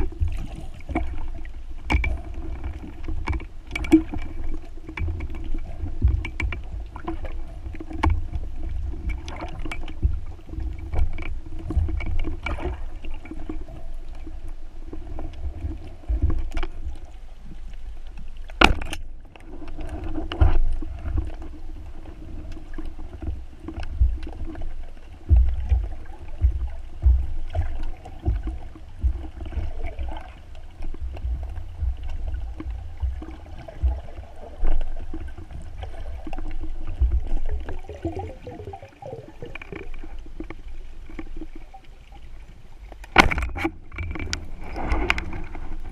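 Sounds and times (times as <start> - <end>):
clicks underwater: 0.0 - 41.9, 42.8 - 45.9
underwater water rushing: 0.0 - 45.9.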